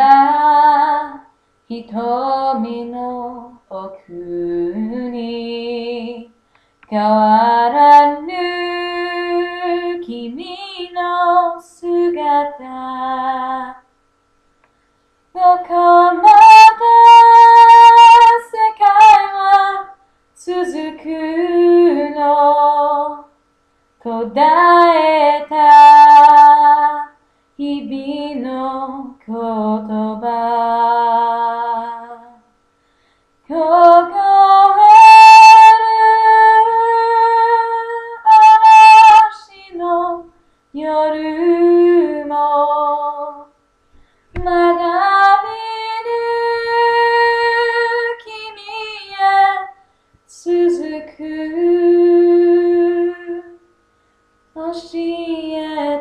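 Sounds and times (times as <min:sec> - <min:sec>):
girl singing unaccompanied: 0:00.0 - 0:13.9, 0:15.3 - 0:23.4, 0:24.0 - 0:32.5, 0:33.5 - 0:43.6, 0:44.4 - 0:53.6, 0:54.5 - 0:56.0.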